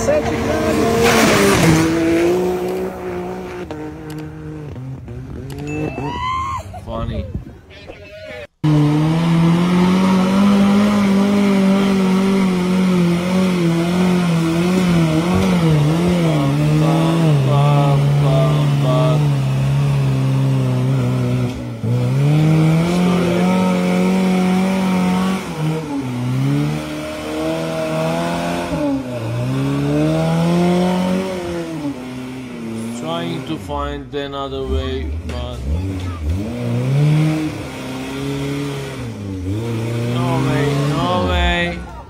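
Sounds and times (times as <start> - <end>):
pickup engine revving: 0.0 - 6.2, 8.4 - 42.0.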